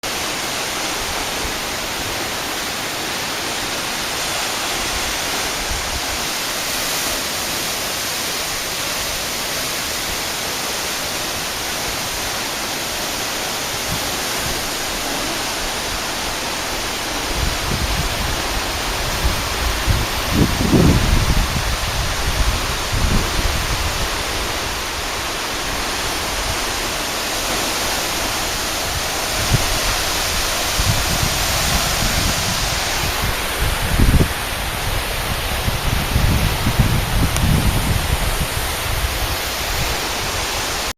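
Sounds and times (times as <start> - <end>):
waterfall splashing: 0.0 - 40.9.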